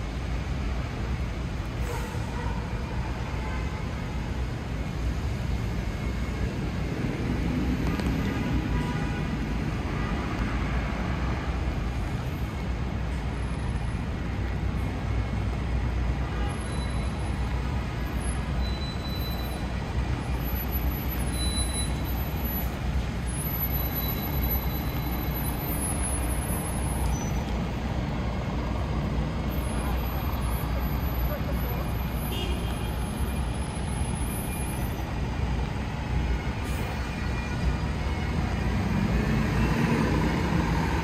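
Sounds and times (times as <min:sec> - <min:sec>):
passing engines rumbling: 0:00.0 - 0:41.0.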